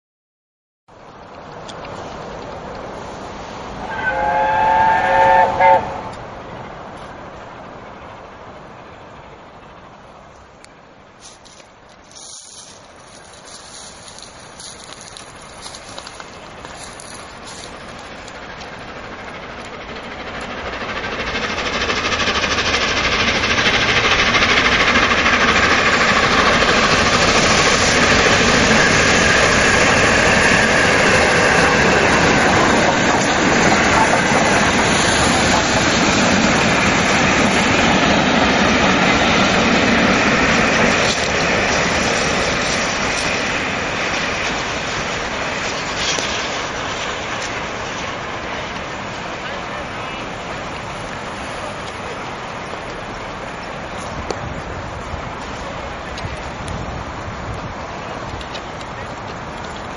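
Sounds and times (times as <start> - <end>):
steam locomotives passing: 0.9 - 59.9
wheels clattering on rails: 0.9 - 59.9.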